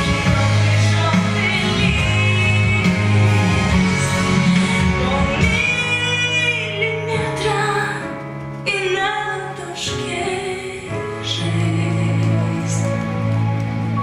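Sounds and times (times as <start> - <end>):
woman singing: 0.0 - 13.4
instrumental backing music: 0.0 - 14.0.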